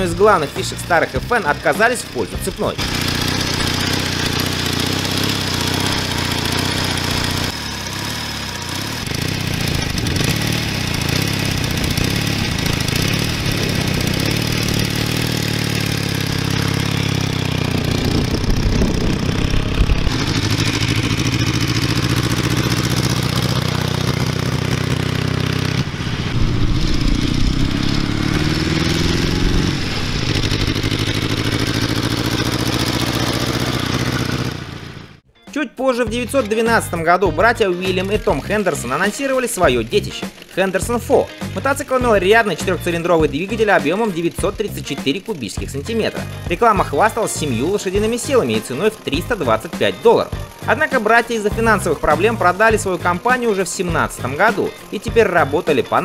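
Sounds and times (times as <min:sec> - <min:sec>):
motorcycle engine revving: 0:00.0 - 0:35.3, 0:36.7 - 0:56.0.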